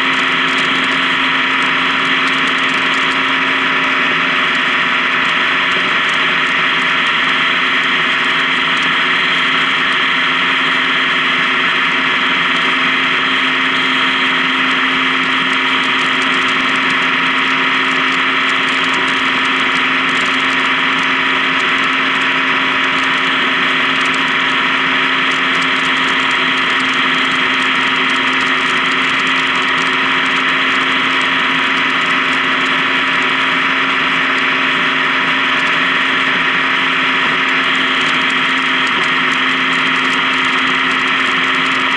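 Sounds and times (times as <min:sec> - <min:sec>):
motorcycle engine drone: 0:00.0 - 0:41.9
road and wind noise: 0:00.0 - 0:41.9.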